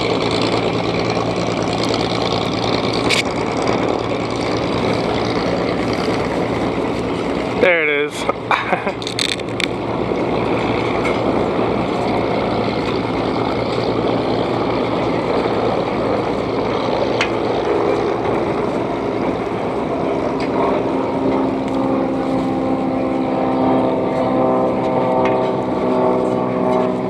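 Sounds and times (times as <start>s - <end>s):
propeller plane engine running: 0.0s - 27.0s
steady engine tone: 0.0s - 27.0s.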